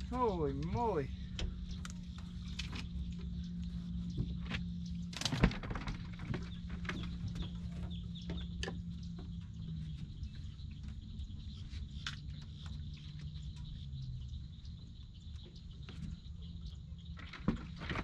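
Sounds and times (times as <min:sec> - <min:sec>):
birds chirping: 0:00.0 - 0:18.0
distant airboat engine droning: 0:00.0 - 0:18.0.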